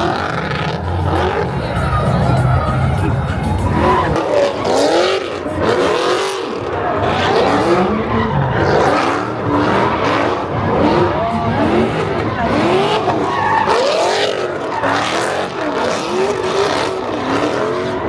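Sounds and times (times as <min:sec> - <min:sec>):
car engine revving: 0:00.0 - 0:18.0
tires squealing: 0:00.0 - 0:18.0.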